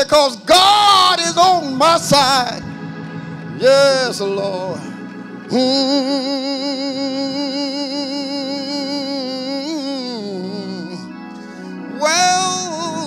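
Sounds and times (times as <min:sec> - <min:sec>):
organ chords: 0:00.0 - 0:13.0
person singing with vibrato: 0:00.0 - 0:13.0.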